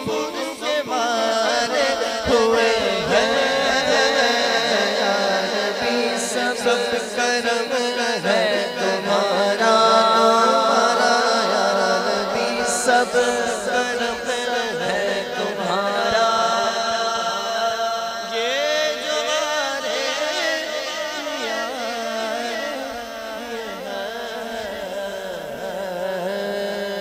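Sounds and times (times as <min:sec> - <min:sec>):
man singing unaccompanied: 0:00.0 - 0:27.0.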